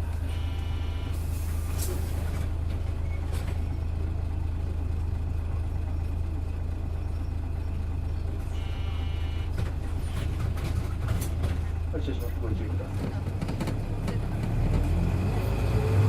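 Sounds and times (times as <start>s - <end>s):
bus diesel engine humming: 0.0s - 16.0s.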